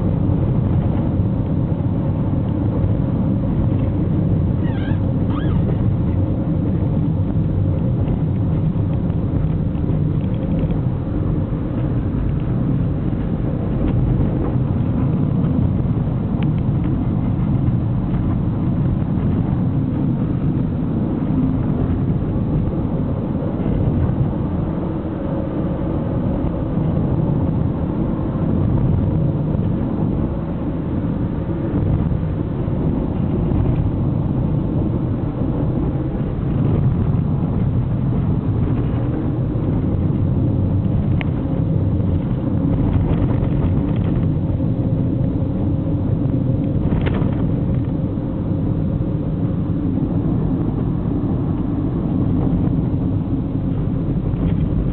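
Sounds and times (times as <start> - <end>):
car cabin road rumble: 0.0 - 54.9.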